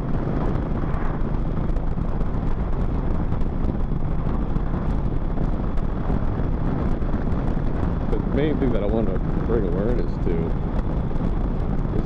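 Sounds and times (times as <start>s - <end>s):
road rumble: 0.0s - 12.0s
wind rushing over microphone: 0.0s - 12.0s.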